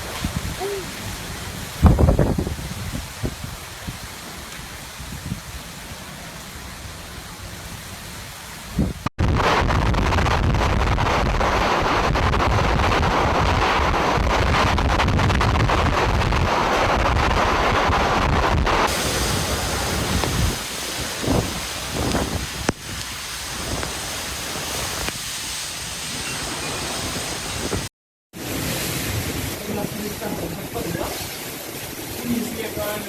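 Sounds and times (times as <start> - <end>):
gusts buffeting microphone: 0.0 - 33.0
heavy rain: 0.0 - 33.0
hurricane wind: 0.0 - 33.0.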